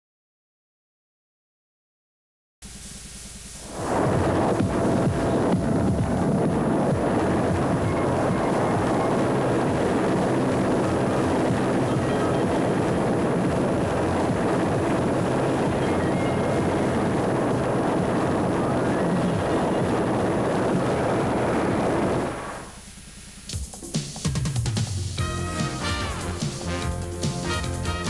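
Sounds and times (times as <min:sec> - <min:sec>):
jet aircraft roar: 0:03.5 - 0:22.8, 0:24.7 - 0:28.0.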